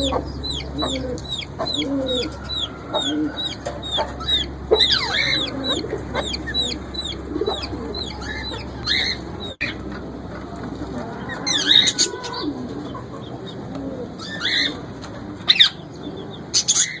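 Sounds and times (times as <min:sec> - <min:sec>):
parrots chirping and squawking: 0:00.0 - 0:15.8, 0:16.5 - 0:17.0.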